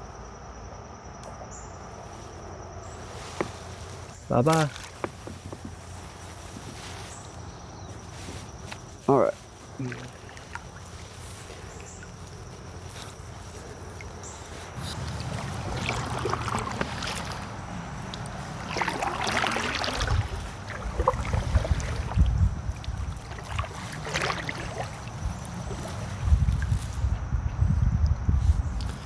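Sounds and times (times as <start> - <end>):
paddle strokes splashing water: 2.2 - 27.2
wind rumble on microphone: 5.0 - 29.0.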